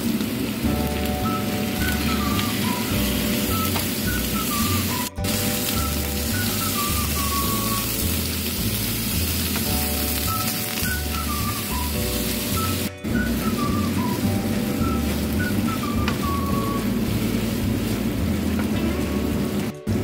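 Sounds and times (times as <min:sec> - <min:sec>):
rain-like hiss: 0:00.0 - 0:20.0
slow melodic background music: 0:00.6 - 0:20.0.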